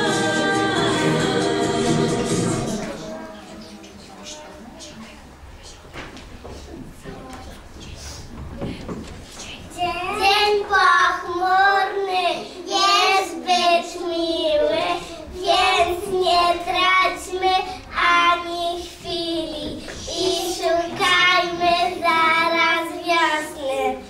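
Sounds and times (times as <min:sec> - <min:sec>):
young children singing: 0:00.0 - 0:05.0, 0:09.4 - 0:24.0.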